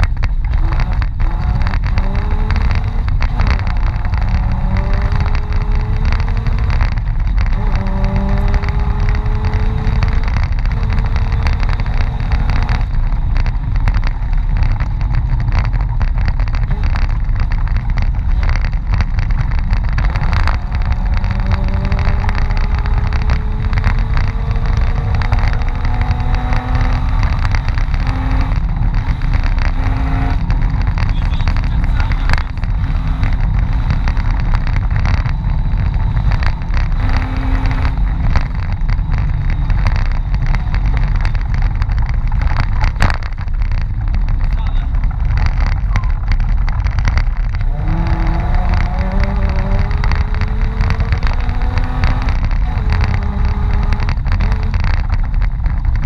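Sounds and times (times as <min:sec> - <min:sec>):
car engine running hard: 0:00.0 - 0:56.0
knocks and jolts from rough track: 0:00.0 - 0:56.0.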